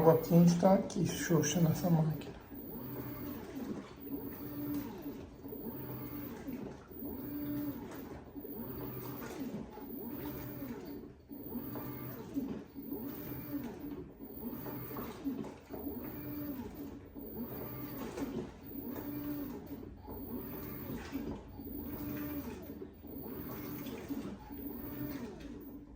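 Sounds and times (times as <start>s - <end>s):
washing machine motor humming: 0.0s - 25.9s.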